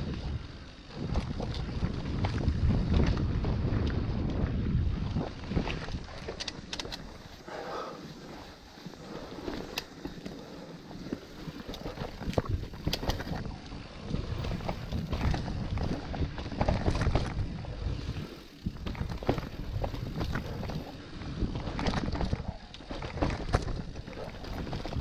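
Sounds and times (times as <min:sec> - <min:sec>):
bike rattling and knocking: 0:00.0 - 0:07.4, 0:08.8 - 0:25.0
wind noise on microphone: 0:00.0 - 0:07.5, 0:08.2 - 0:25.0
bike tyres rolling on dirt: 0:00.0 - 0:25.0.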